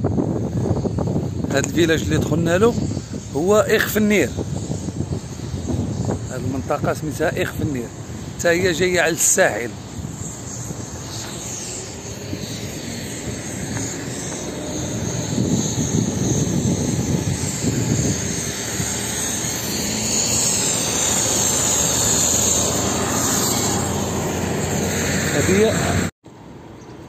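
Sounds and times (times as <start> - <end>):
road noise: 0.0 - 27.0
vehicle engine rumble: 0.0 - 27.0.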